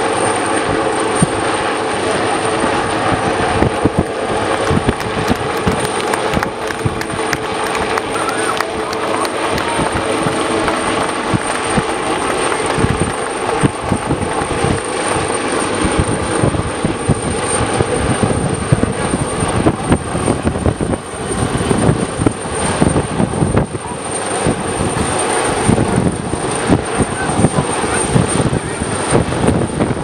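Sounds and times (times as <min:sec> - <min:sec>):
helicopter hovering: 0:00.0 - 0:30.0.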